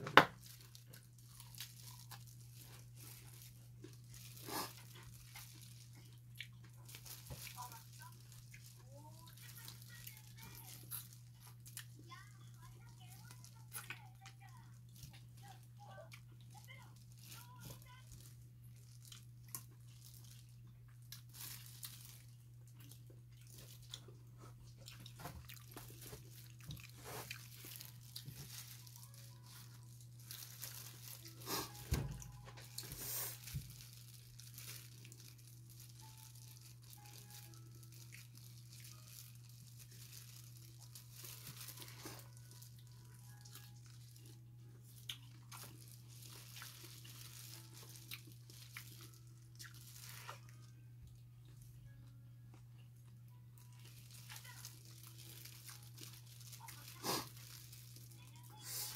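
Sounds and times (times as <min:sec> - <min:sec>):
plastic gloves crinkling: 0:00.0 - 0:51.8, 0:53.6 - 0:58.9
person chewing: 0:00.4 - 0:12.2, 0:18.7 - 0:50.7, 0:53.2 - 0:58.0.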